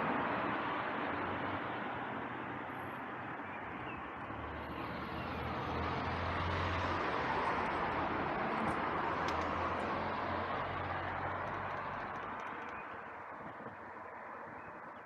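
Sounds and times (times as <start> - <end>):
vehicle engine humming: 0.0 - 14.8
road traffic noise: 0.0 - 15.0.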